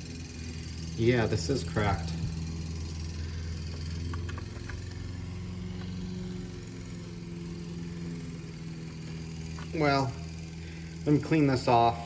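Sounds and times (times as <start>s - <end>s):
engine parts clicking: 0.0s - 12.0s
machine humming: 0.0s - 12.0s.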